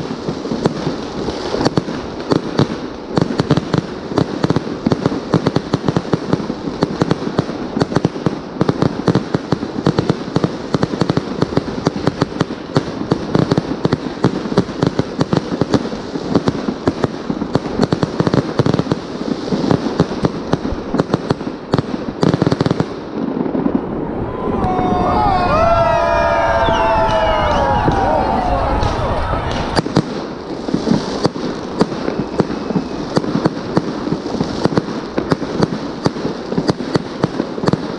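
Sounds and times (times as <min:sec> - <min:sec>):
fireworks popping and crackling: 0:00.0 - 0:37.9.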